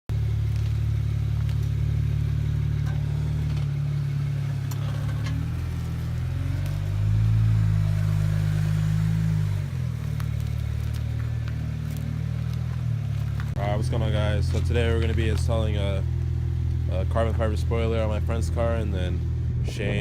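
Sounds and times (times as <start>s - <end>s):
car engine droning: 0.1s - 20.0s.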